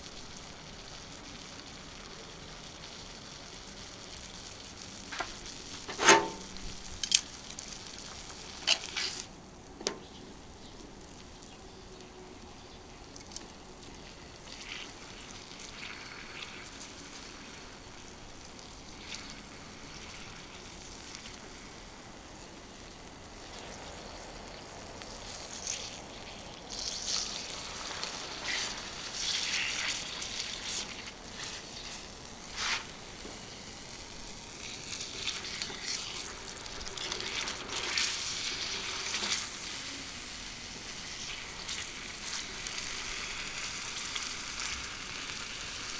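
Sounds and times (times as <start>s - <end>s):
steak sizzling on griddle: 0.0s - 45.9s.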